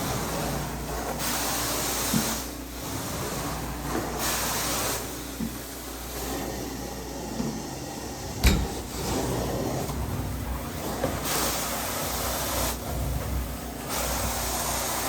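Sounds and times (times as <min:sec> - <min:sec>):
carpet cleaner hissing: 0:00.0 - 0:15.0.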